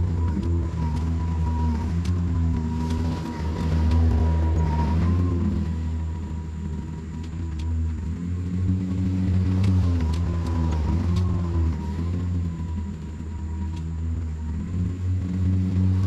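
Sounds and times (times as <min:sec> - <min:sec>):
electric lawn mower humming: 0:00.0 - 0:16.0.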